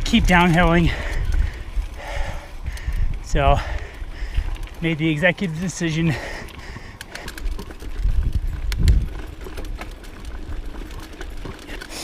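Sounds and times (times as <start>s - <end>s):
wind rumble on microphone: 0.0s - 5.4s, 6.5s - 11.7s
bike clicks and crunches: 0.0s - 12.0s.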